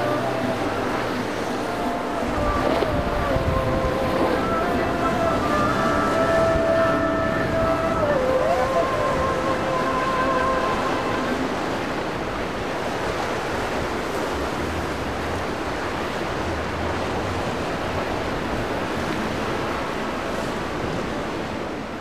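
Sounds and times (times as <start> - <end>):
waves breaking: 0.0 - 22.0
wind buffeting microphone: 0.0 - 22.0.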